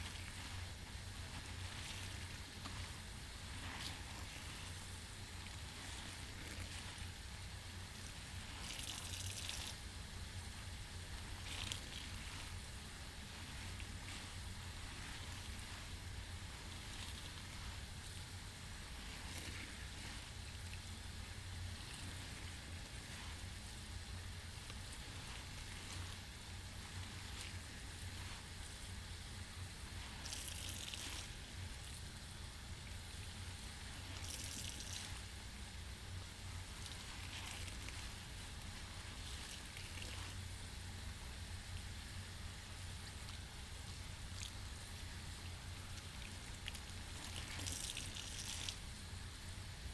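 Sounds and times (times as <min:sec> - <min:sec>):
fizzing crackle of suds and water: 0:00.0 - 0:49.9
wet sponge squeezes: 0:00.0 - 0:49.9.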